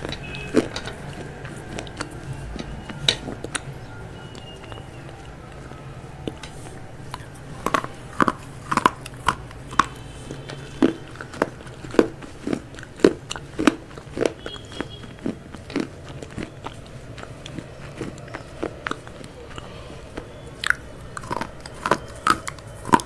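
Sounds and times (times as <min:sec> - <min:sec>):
crunchy bites and chewing: 0:00.0 - 0:23.0.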